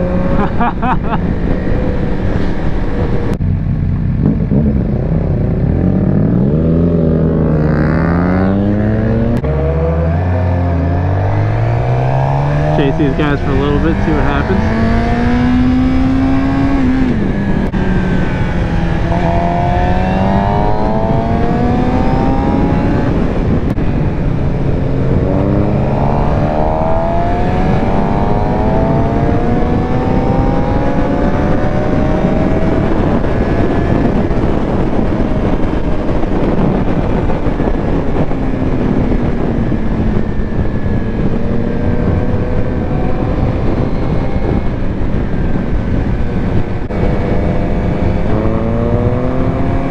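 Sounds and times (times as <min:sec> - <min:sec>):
motorcycle engine revving: 0:00.0 - 0:49.9
wind rush on microphone: 0:00.0 - 0:49.9.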